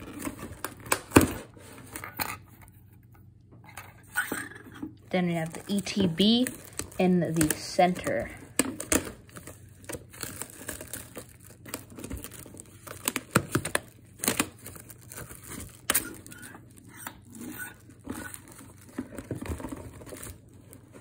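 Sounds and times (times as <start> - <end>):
plastic wrap crinkling and tearing: 0.0 - 2.1, 5.1 - 21.0.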